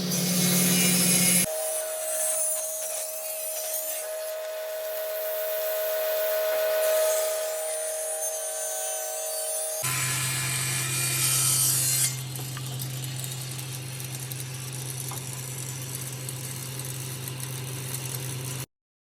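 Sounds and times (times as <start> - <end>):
power saw cutting wood: 0.0 - 18.7.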